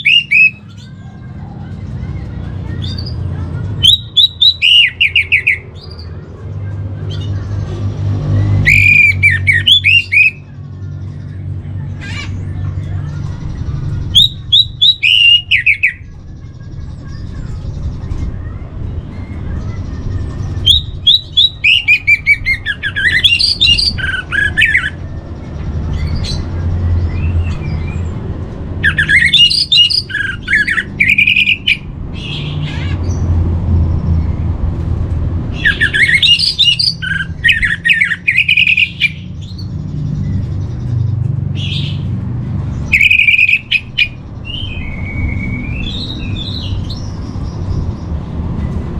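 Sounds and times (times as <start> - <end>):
thrush singing: 0.0 - 48.9.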